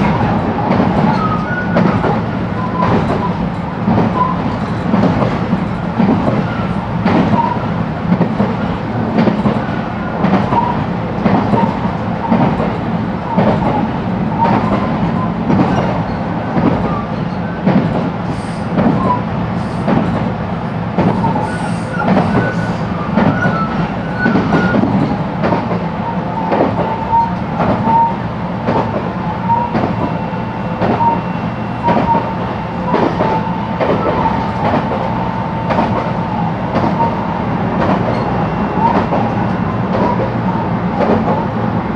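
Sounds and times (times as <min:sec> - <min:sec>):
train interior rumble: 0:00.0 - 0:41.9.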